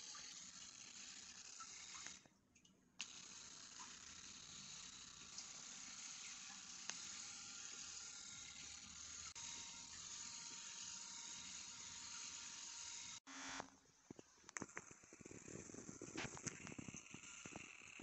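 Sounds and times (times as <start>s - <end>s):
massager motor whirring: 0.0s - 2.3s, 3.0s - 13.7s, 14.7s - 18.0s.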